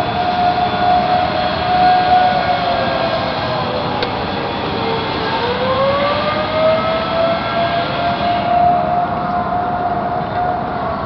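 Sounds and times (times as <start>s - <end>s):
distant wailing warning sirens: 0.0s - 11.0s.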